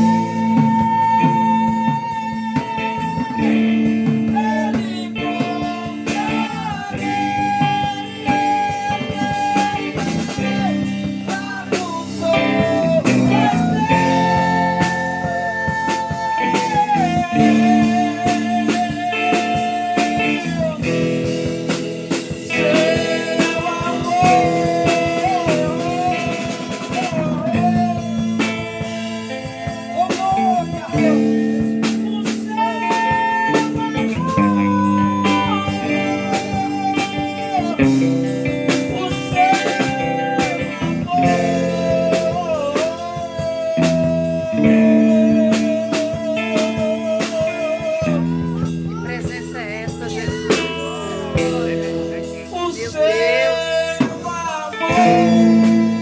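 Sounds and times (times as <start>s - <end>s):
drum kit: 0.0s - 56.0s
electric guitar lead with vibrato: 0.0s - 56.0s.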